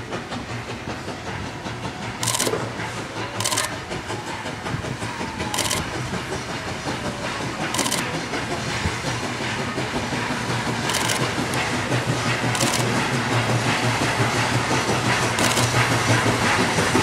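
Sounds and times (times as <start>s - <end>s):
steam locomotive rumble: 0.0s - 17.0s.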